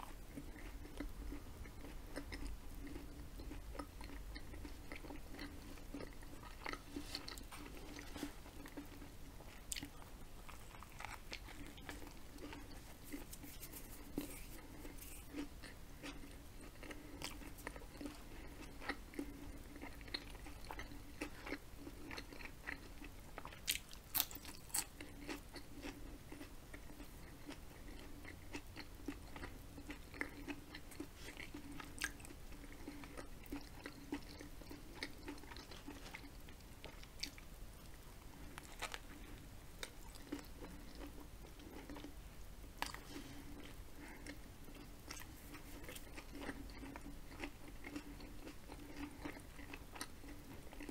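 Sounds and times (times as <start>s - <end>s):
person chewing sandwich: 0.0s - 42.2s, 42.8s - 50.9s.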